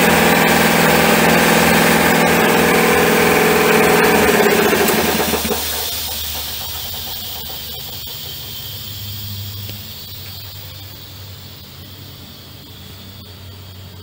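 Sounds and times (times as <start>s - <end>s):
air compressor humming: 0.0s - 14.0s
air hissing: 0.0s - 14.0s.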